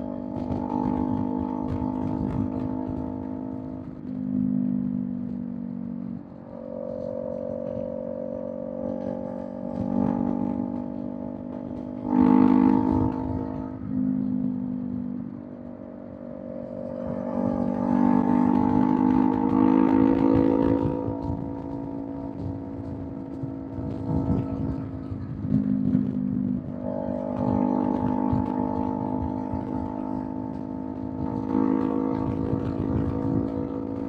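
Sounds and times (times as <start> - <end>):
motorcycle engine at speed: 0.0 - 34.0
road and wind noise: 0.0 - 34.0.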